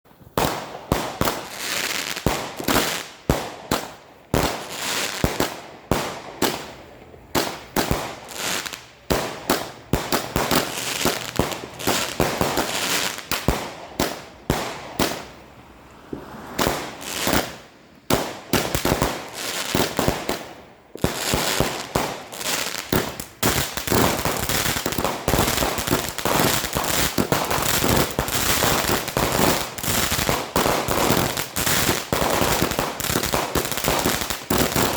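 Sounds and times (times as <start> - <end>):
fireworks firing shots: 0.2 - 34.9.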